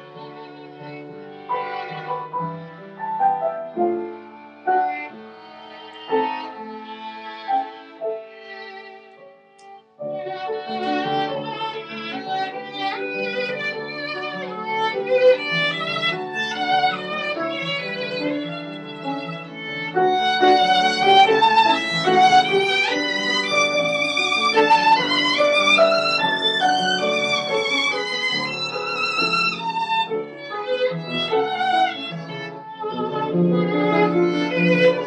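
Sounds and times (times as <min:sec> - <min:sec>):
piano accompaniment: 0:00.0 - 0:35.0
violin melody: 0:00.0 - 0:35.0.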